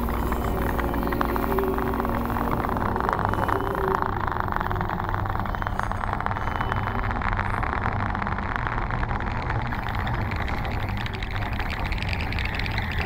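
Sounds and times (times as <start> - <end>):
dense fine crackle: 0.0 - 13.0
low hum: 0.0 - 13.0.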